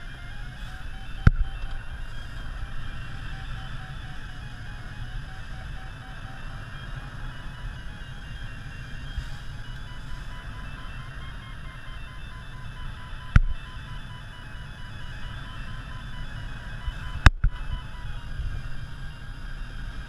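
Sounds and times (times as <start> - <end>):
variometer beeping: 0.0 - 20.0.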